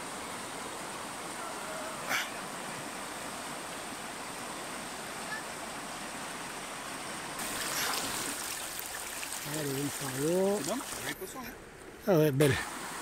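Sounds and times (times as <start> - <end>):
river rushing over stones: 0.0 - 11.3.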